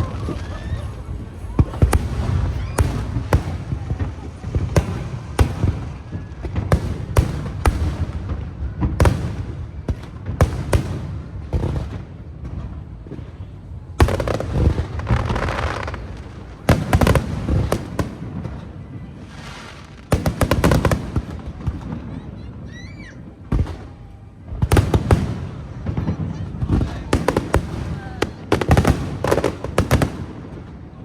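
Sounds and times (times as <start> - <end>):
fireworks bursting with sharp bangs: 0.0 - 31.0.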